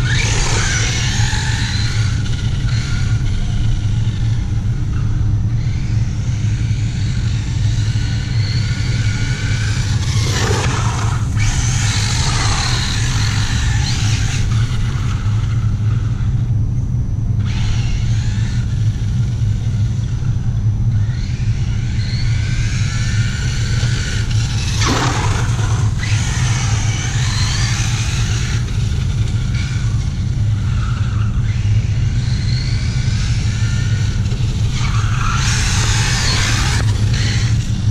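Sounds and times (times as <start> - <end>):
electric motor whining: 0.0 - 16.5, 17.4 - 37.9
steady low rumble: 0.0 - 37.9.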